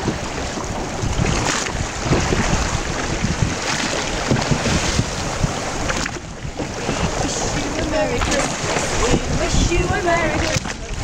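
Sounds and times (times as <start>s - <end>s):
water splashing around boat: 0.0s - 11.0s
wind buffeting microphone: 0.0s - 11.0s.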